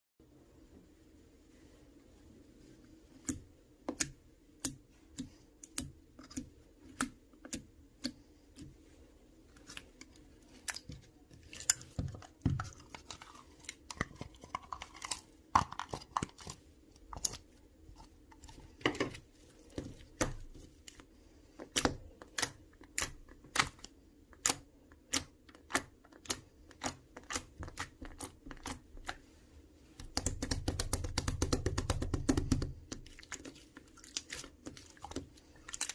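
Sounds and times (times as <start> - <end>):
slime squishing with wet clicks: 3.1 - 35.9.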